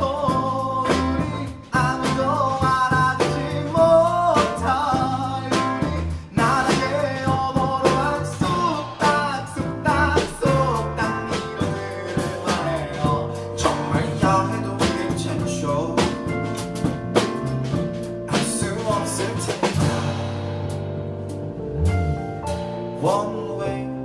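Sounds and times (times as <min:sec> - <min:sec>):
man singing: 0:00.0 - 0:16.6, 0:18.3 - 0:20.5, 0:23.0 - 0:24.0
electric bass: 0:00.0 - 0:24.0
keyboard: 0:00.0 - 0:24.0.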